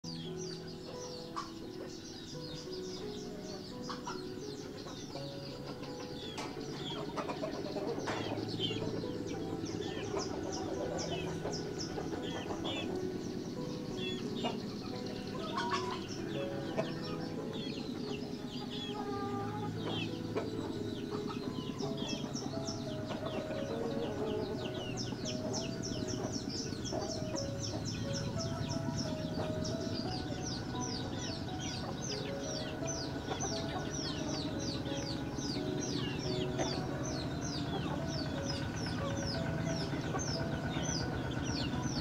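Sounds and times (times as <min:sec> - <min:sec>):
chickens clucking: 0:00.0 - 0:42.0
chicks peeping: 0:00.0 - 0:42.0.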